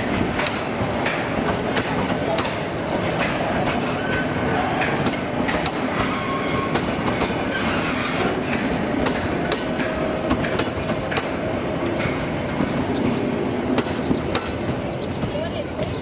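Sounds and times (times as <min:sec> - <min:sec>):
train wheels clicking over rail joints: 0:00.0 - 0:16.0.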